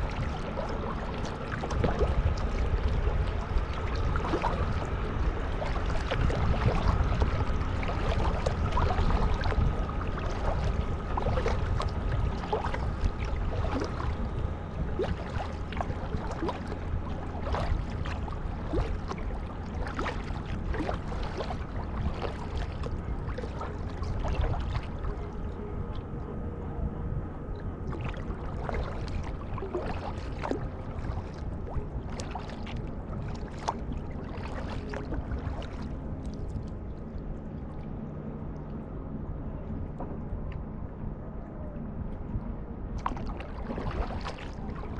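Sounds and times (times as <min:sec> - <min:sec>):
water dripping and sloshing: 0:00.0 - 0:26.2, 0:27.5 - 0:38.9, 0:43.0 - 0:44.9
paddle blades splashing: 0:00.0 - 0:26.3, 0:27.5 - 0:39.1, 0:42.9 - 0:44.9
steady low rumble: 0:00.0 - 0:44.9.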